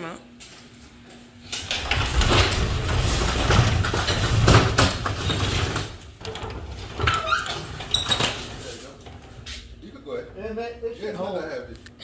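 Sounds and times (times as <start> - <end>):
garage door rollers rumbling: 1.4 - 11.6.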